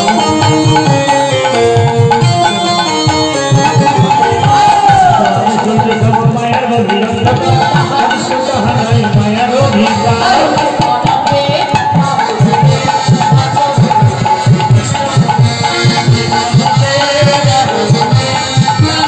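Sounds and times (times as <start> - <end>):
barrel drums beaten fast: 0.0 - 19.0
devotional singing: 3.6 - 19.0.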